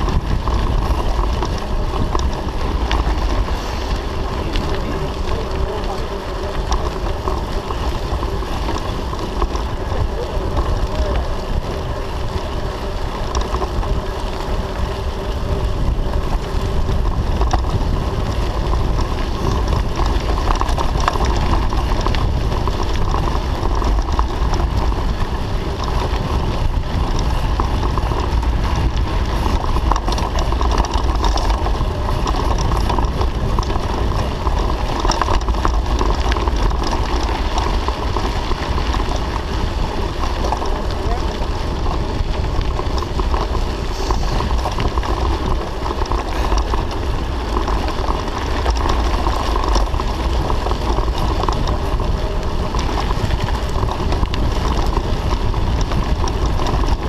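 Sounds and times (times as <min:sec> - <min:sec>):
bicycle tyres on dirt road: 0:00.0 - 0:57.0
wind buffeting microphone: 0:00.0 - 0:57.0.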